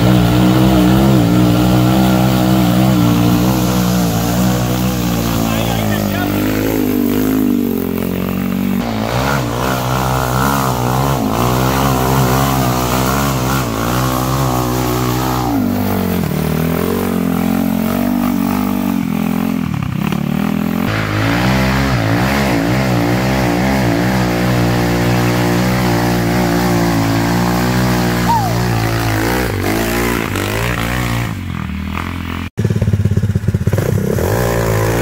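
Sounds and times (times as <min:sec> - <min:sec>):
go-kart engine revving: 0:00.0 - 0:35.0.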